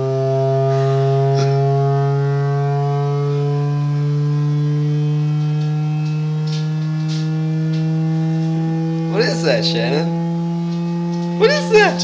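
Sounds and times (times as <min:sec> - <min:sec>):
low electronic tone: 0:00.0 - 0:12.0.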